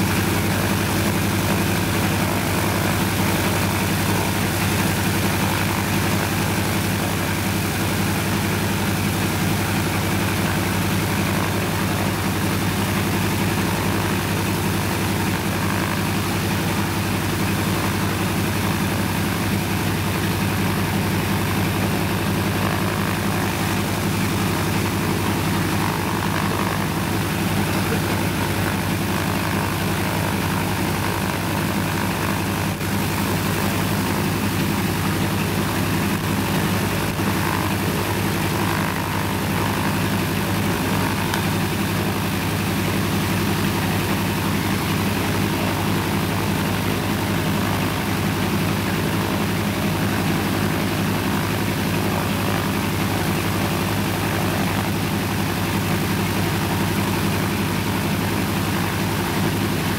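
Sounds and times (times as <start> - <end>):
piston engine and propeller running: 0.0 - 59.9.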